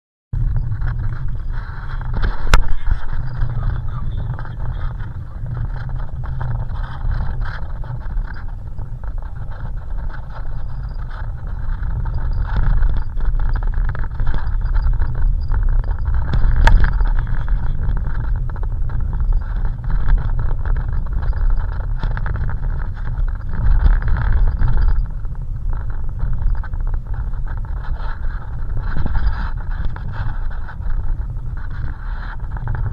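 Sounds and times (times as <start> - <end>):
boat motor running: 0.4 - 32.9.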